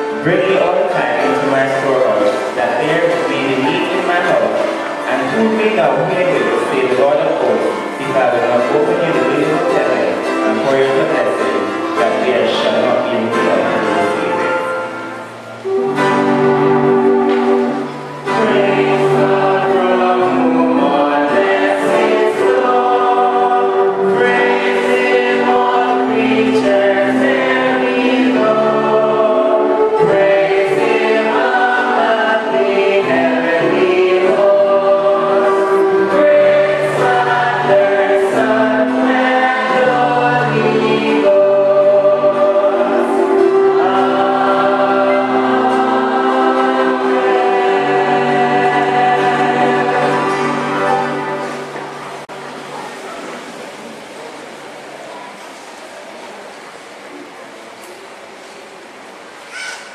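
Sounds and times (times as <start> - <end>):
group singing a hymn in harmony: 0.0 - 52.4.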